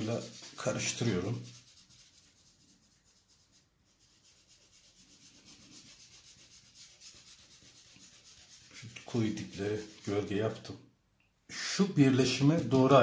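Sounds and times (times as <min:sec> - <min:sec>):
cotton rubbing pastel on paper: 0:00.0 - 0:10.7, 0:12.0 - 0:13.0.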